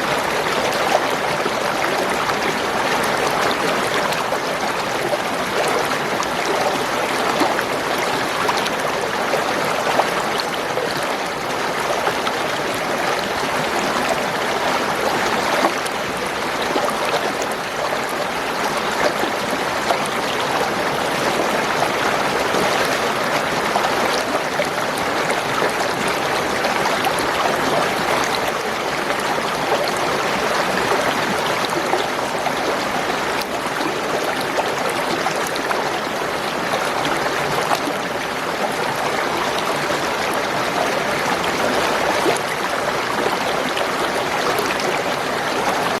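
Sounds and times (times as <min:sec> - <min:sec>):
water babbling over stones: 0:00.0 - 0:46.0.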